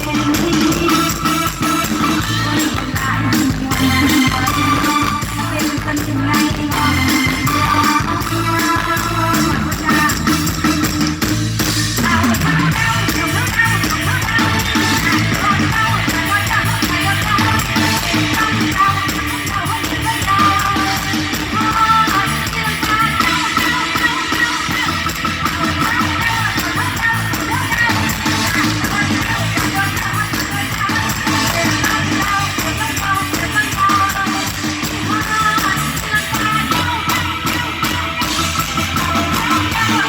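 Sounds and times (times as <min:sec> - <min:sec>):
person singing: 0:00.0 - 0:11.3, 0:11.9 - 0:40.0
electric guitar: 0:00.0 - 0:40.0
live band music over loudspeaker: 0:00.0 - 0:40.0.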